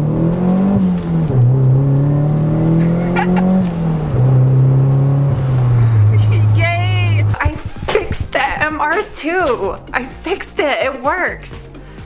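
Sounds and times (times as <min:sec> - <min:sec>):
car engine accelerating: 0:00.0 - 0:10.2.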